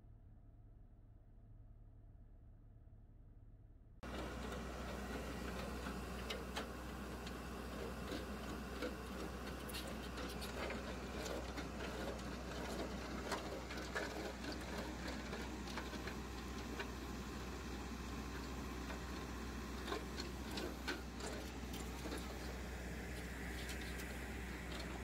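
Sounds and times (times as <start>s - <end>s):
diesel engine humming: 4.0s - 25.0s.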